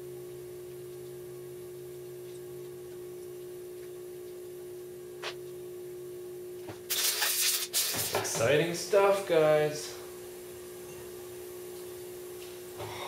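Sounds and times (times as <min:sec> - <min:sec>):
machine hum with held tone: 0:00.0 - 0:13.0.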